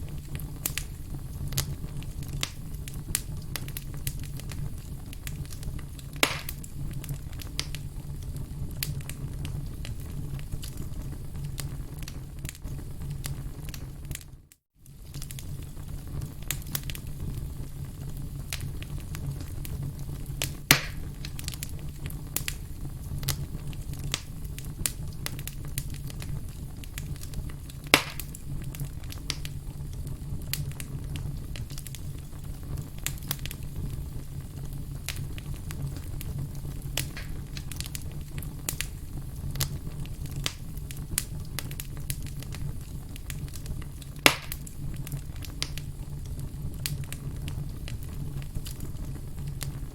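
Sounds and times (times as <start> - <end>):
fire popping: 0.0 - 49.9
wood fire crackling: 0.0 - 49.9.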